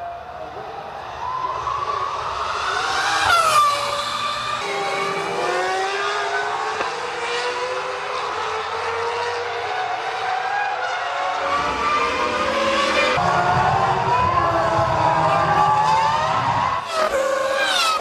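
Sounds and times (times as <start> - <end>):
racing engines at high revs: 1.4 - 18.0.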